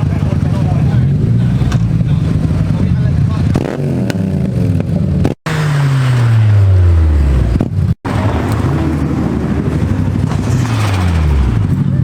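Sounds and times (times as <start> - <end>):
car engine: 0.0 - 12.0
engines running: 0.0 - 12.0.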